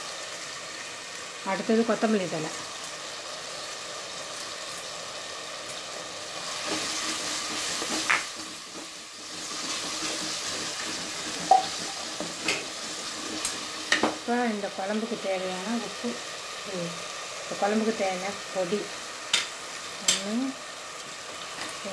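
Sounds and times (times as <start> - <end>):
vegetables sizzling in a pot: 0.0 - 21.9.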